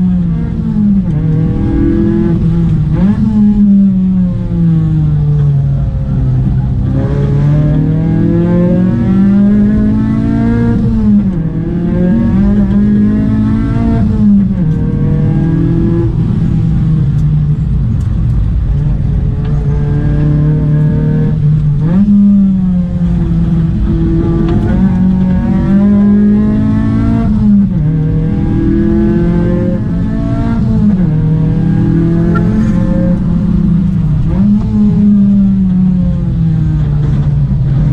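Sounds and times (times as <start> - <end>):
car engine revving hard: 0.0 - 5.4, 6.0 - 17.4, 19.0 - 37.9.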